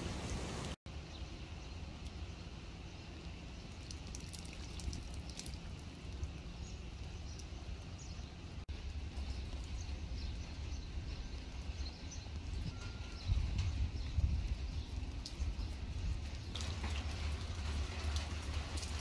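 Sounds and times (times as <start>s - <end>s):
light rain on puddle and grass: 0.0s - 0.8s, 1.4s - 19.0s.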